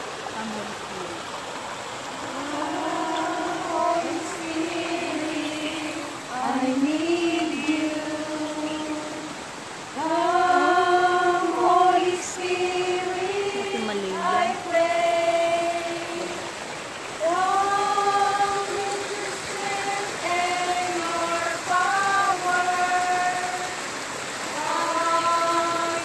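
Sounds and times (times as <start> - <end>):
voices singing slow song: 2.0 - 26.0.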